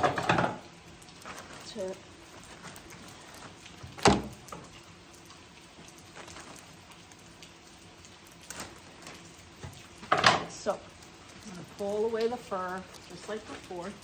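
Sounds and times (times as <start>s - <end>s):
faint clicks and rustles: 0.0s - 14.0s.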